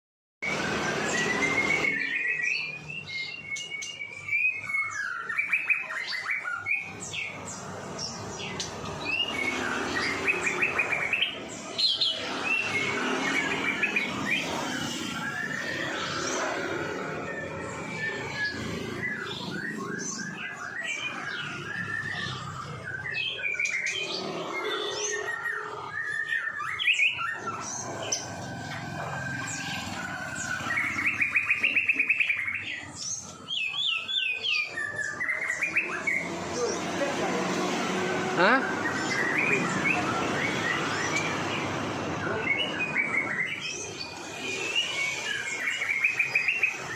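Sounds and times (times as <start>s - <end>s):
songbird chirping and whistling: 0.4s - 36.7s, 38.7s - 46.9s.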